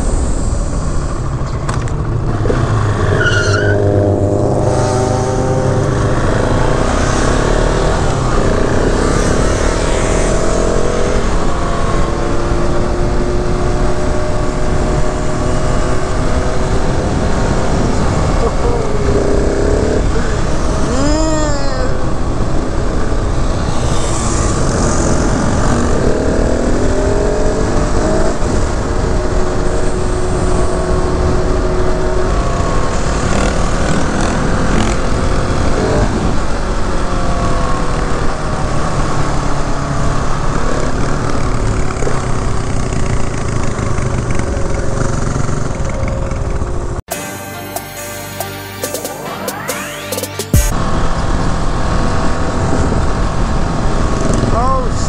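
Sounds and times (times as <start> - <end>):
motorcycle engine accelerating: 0.0 - 47.1.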